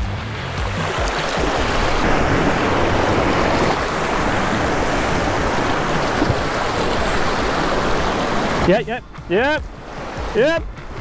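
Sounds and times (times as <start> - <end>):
surf breaking over rocks: 0.5 - 11.0.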